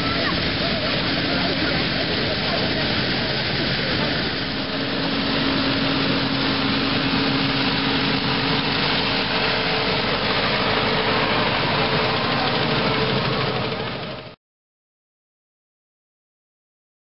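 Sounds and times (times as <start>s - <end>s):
threshing machinery running: 0.0s - 14.4s
tractor diesel engine under load: 0.0s - 14.4s.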